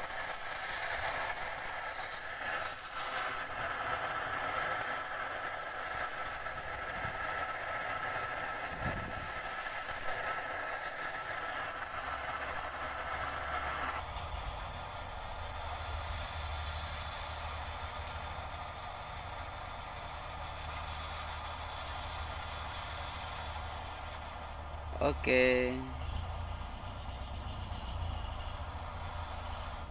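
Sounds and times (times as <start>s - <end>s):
gas torch flame hissing: 0.0s - 29.9s.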